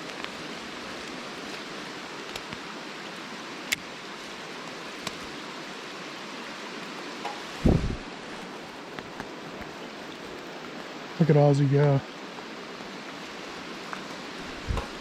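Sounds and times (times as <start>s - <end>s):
rain: 0.0s - 15.0s
river water flowing: 0.0s - 15.0s.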